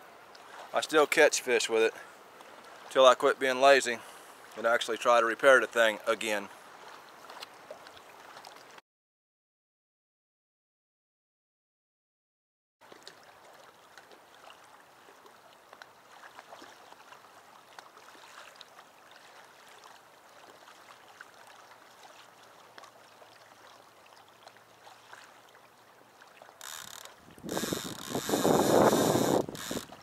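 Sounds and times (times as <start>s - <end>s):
small waves lapping: 0.0s - 8.8s, 12.8s - 30.0s.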